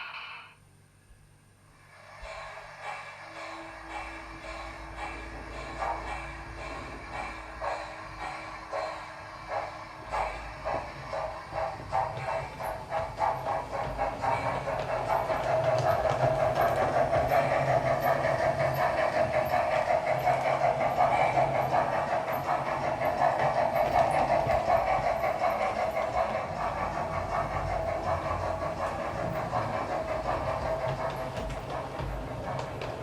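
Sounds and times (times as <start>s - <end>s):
model steam locomotive chuffing: 1.8s - 33.0s.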